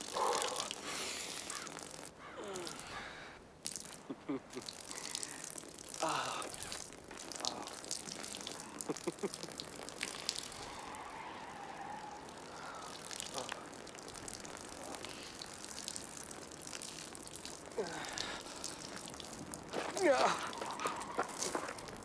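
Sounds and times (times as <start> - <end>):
urine splashing onto gravel: 0.0 - 22.0.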